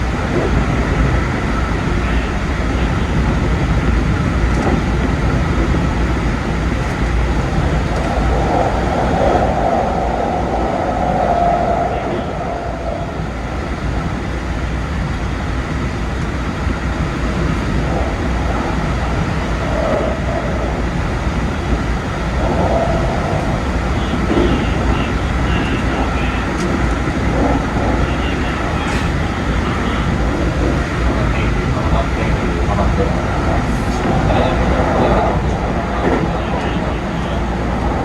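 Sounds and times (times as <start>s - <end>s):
train motor humming tone: 0.0s - 38.0s
train wheels rumbling on rail: 0.0s - 38.0s.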